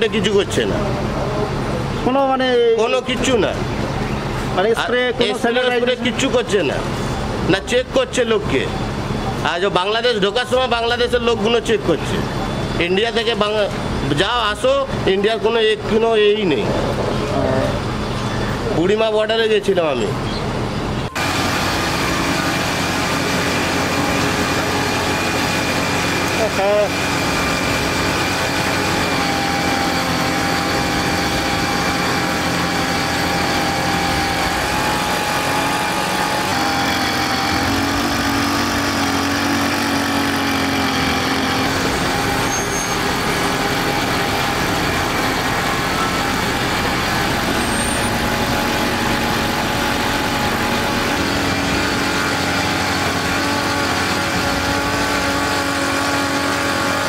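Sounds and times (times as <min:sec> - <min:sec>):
heavy lorry engines running: 0:00.0 - 0:57.0
street traffic noise: 0:00.0 - 0:57.0.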